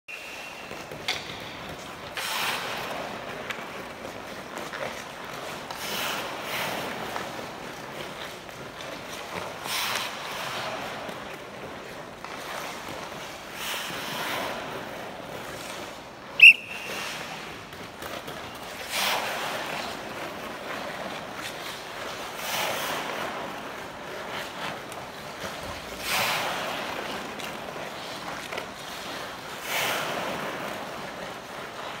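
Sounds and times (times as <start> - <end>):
skate blades scraping ice: 0.1 - 32.0.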